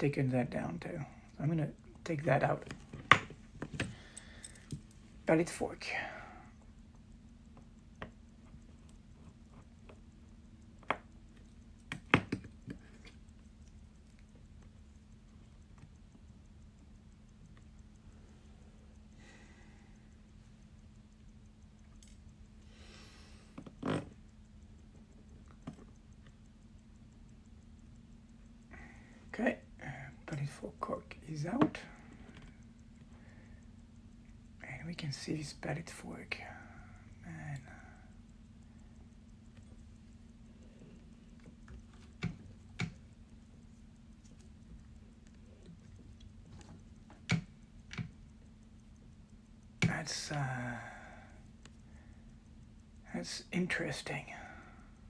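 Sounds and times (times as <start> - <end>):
steady low hum: 0.0 - 55.0
metal tools clicking on watch: 2.2 - 5.6, 6.2 - 29.7, 30.4 - 55.0.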